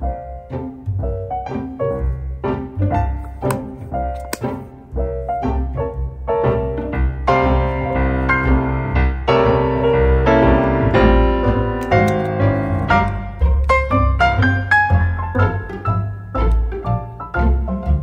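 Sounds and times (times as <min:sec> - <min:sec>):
lively piano music: 0:00.0 - 0:18.0.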